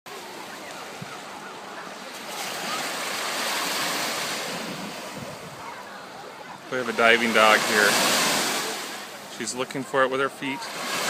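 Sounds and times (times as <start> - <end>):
water splashing and sloshing: 0.1 - 11.0.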